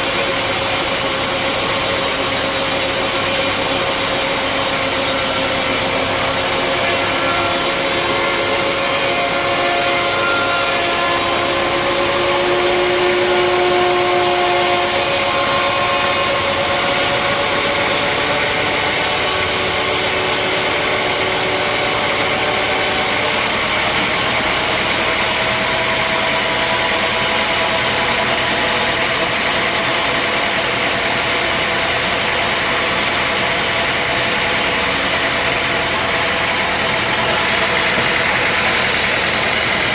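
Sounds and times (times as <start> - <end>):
machinery whining tones: 0.0 - 39.9
sawmill machinery din: 0.0 - 39.9.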